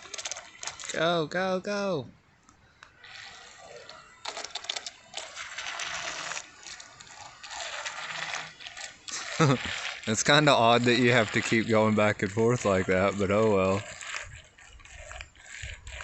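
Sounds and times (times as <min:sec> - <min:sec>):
toy boat motor churning water: 0:00.0 - 0:01.2, 0:02.8 - 0:16.0.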